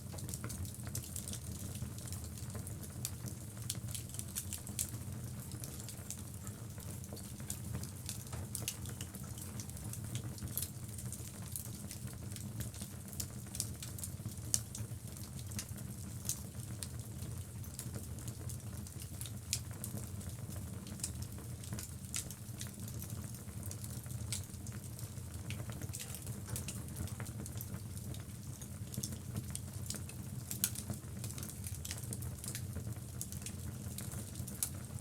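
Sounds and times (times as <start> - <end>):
logs burning with crackles: 0.1 - 35.0.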